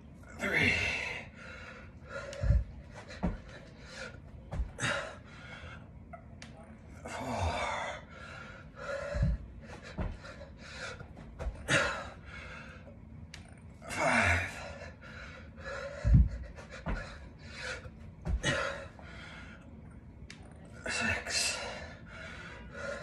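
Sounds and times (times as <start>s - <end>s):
man panting: 0.4s - 5.8s, 7.1s - 12.9s, 13.9s - 19.6s, 20.8s - 23.0s.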